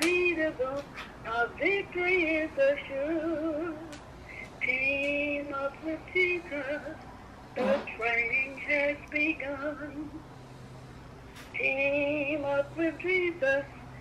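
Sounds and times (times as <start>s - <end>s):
woman singing over phone speaker: 0.0s - 7.0s, 7.6s - 10.3s, 11.5s - 14.0s.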